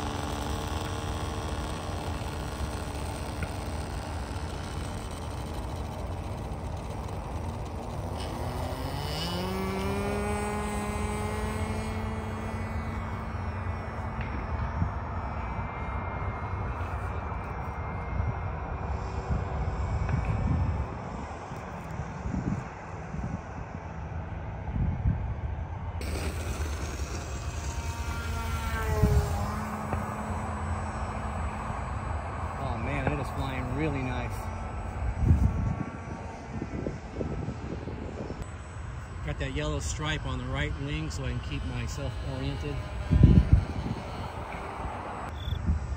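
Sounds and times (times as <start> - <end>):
model plane engine buzzing: 0.0 - 45.9.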